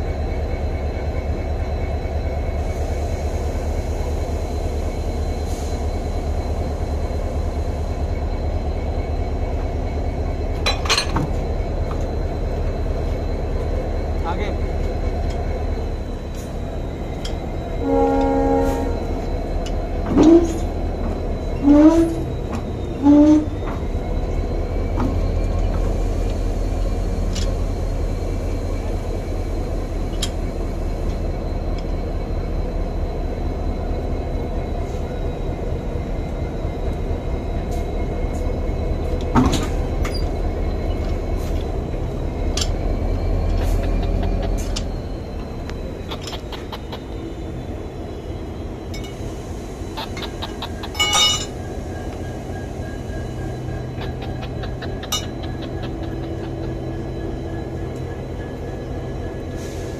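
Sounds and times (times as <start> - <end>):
locomotive rumbling: 0.0 - 59.9.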